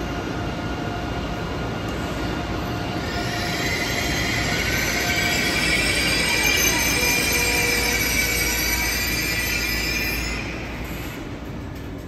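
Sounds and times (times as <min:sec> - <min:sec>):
train running noise: 0:00.0 - 0:12.0
train wheels squealing: 0:02.0 - 0:12.0.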